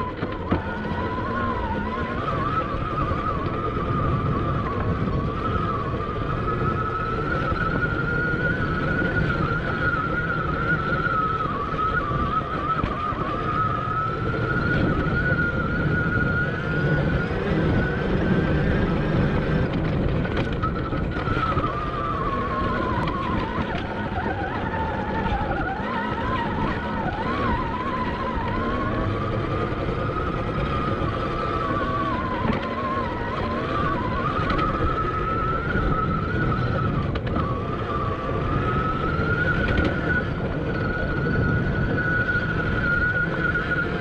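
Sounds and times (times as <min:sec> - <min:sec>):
electric motorbike motor whining: 0:00.0 - 0:44.0
low rumble of bike on trail: 0:00.0 - 0:44.0
wind buffeting microphone: 0:00.0 - 0:44.0.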